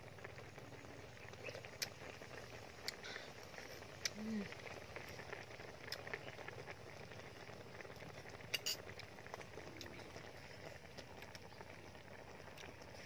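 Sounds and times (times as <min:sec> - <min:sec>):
soup bubbling in wok: 0:00.0 - 0:13.0.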